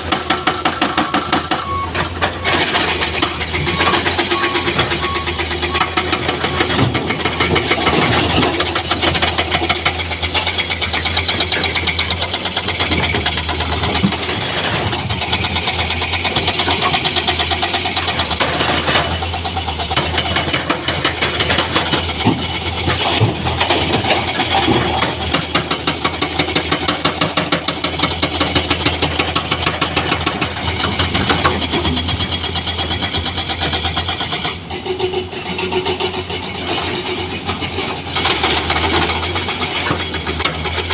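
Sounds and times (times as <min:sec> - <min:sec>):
heavy diesel machinery running: 0:00.0 - 0:40.9
knocks and clatter of stones: 0:05.7 - 0:40.9.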